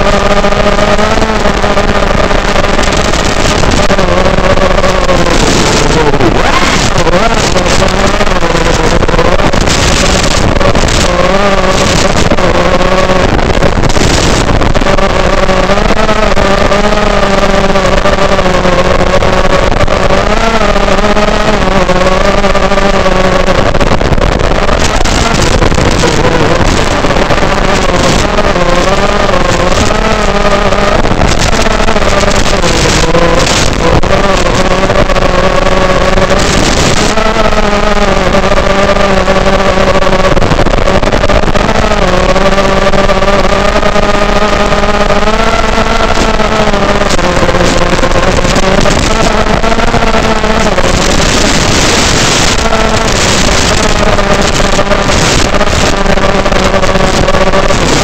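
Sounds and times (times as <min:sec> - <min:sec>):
quadcopter motors whining: 0:00.0 - 0:58.0
rushing air noise: 0:00.0 - 0:58.0.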